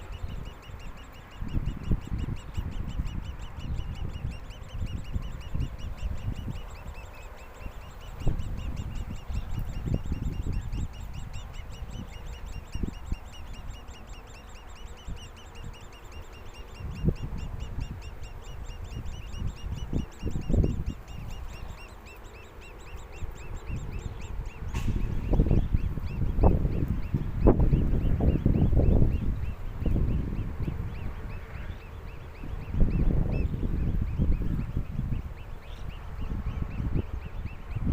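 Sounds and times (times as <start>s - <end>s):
bird nestlings begging calls: 0.0s - 37.9s.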